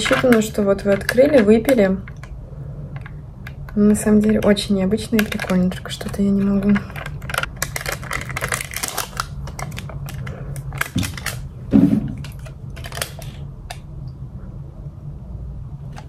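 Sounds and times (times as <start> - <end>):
water container clicks and crinkles: 0.0 - 13.9
steady low hum: 0.0 - 16.0.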